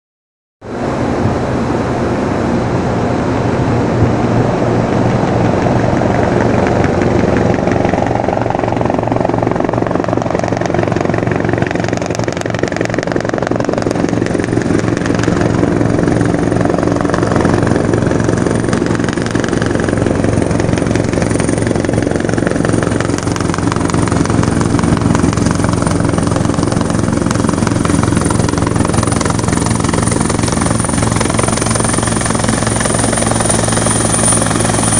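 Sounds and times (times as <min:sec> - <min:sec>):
helicopter rotor and turbine whine: 0:00.6 - 0:34.9
low hum and rumble: 0:00.6 - 0:34.9.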